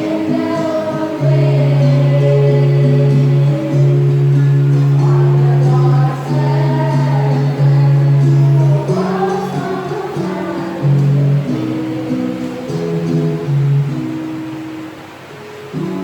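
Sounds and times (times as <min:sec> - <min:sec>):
choir singing: 0:00.0 - 0:14.1
instrumental accompaniment: 0:00.0 - 0:16.0.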